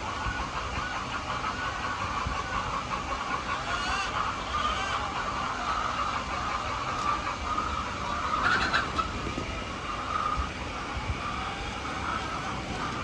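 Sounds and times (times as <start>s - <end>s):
steady background hum: 0.0s - 13.0s
hens calling: 0.1s - 13.0s.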